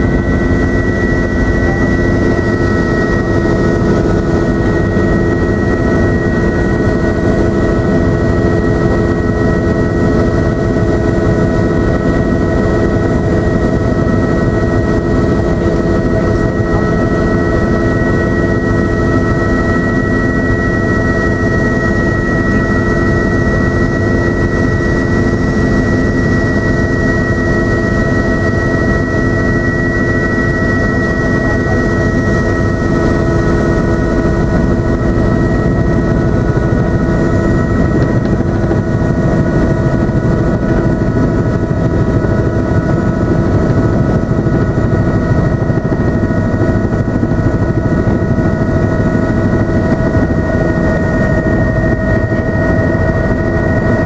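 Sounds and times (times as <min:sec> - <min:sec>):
helicopter cabin drone: 0:00.0 - 0:54.0
high whine: 0:00.0 - 0:54.0.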